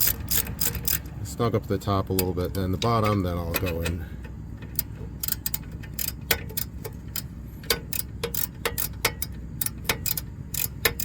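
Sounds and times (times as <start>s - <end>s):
ratchet wrench clicking: 0.0s - 1.2s, 2.1s - 11.0s.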